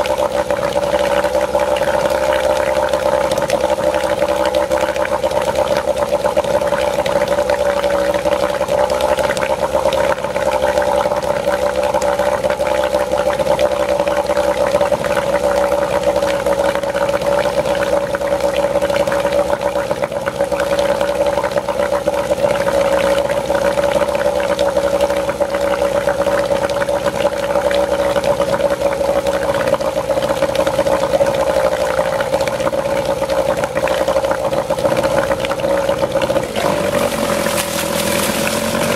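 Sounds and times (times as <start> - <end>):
outboard motor running: 0.0 - 38.9
propeller churning water: 0.0 - 38.9.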